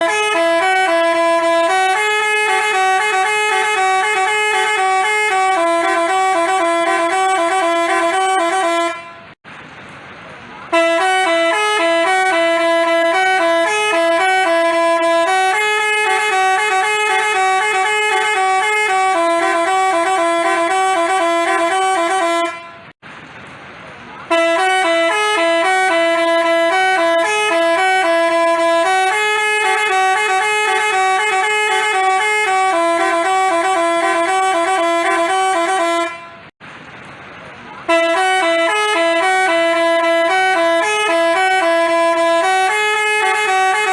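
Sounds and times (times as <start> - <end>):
multi-tone horn melody: 0.0 - 9.4, 10.7 - 23.0, 24.3 - 36.5, 37.9 - 43.9.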